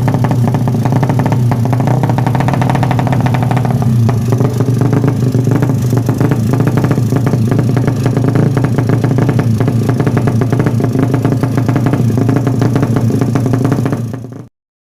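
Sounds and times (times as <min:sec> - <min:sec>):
motorcycle engine running: 0:00.0 - 0:14.5.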